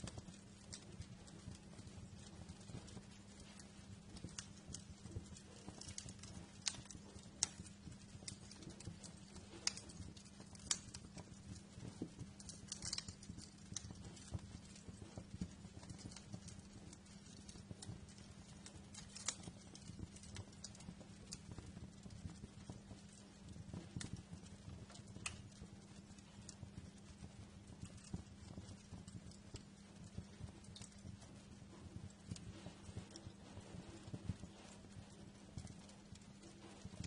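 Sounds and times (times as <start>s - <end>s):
hiss of burning logs: 0.0s - 37.0s
wood fire crackling and popping: 0.0s - 37.0s.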